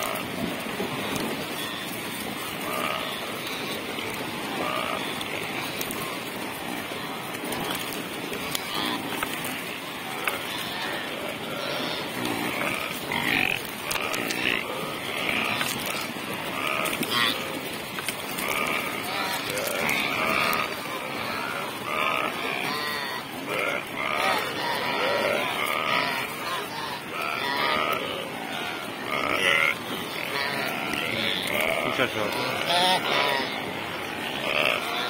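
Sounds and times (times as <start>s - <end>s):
antelopes grunting calls: 0.0s - 35.0s.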